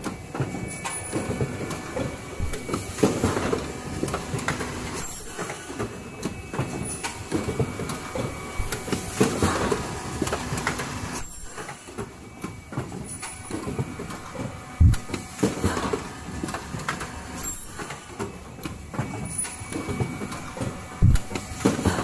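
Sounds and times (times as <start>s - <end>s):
machine clattering clicks and knocks: 0.0s - 22.0s.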